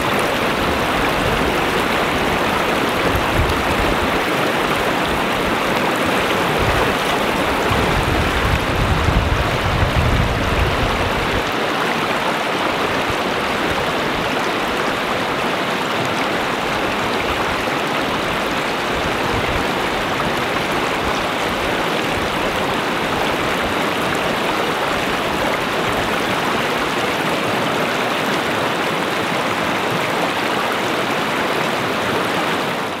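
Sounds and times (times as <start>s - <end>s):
river water rushing over gravel: 0.0s - 33.0s.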